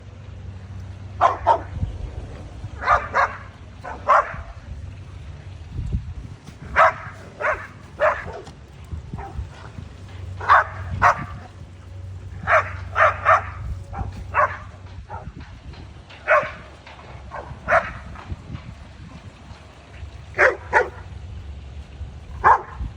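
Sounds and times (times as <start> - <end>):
steady low hum: 0.0 - 22.9
dogs barking: 1.0 - 4.9, 6.5 - 21.6, 22.2 - 22.9.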